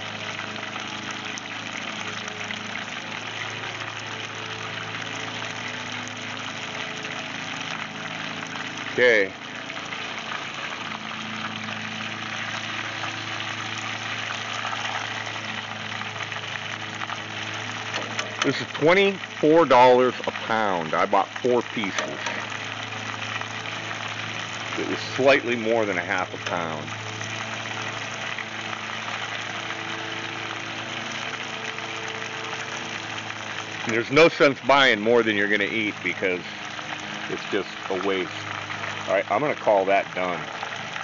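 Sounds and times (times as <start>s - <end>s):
low steady hum: 0.0s - 41.0s
oil sizzling while deep-frying: 0.0s - 41.0s.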